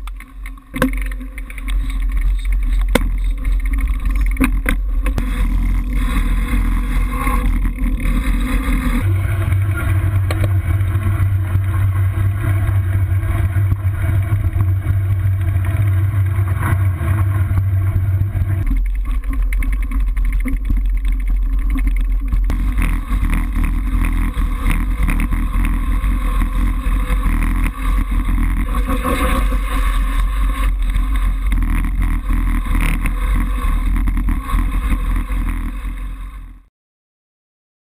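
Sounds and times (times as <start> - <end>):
bicycle tyres rolling on gravel: 0.0 - 36.7.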